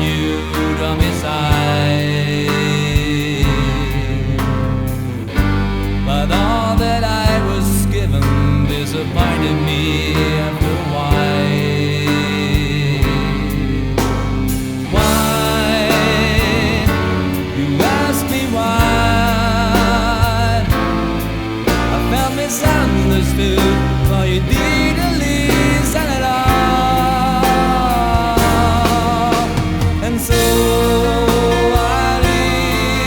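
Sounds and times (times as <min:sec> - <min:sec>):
pop-rock band music: 0:00.0 - 0:33.0.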